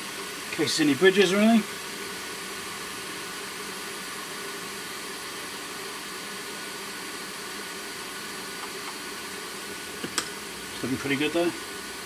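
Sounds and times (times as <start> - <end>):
blower fan hissing: 0.0 - 12.0.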